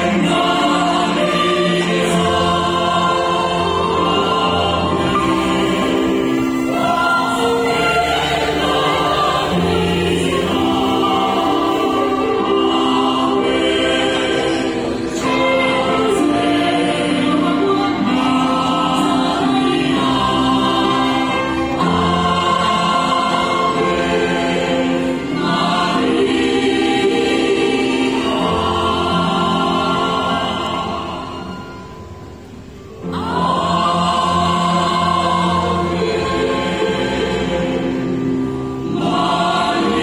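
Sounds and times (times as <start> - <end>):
choir singing a hymn: 0.0 - 40.0.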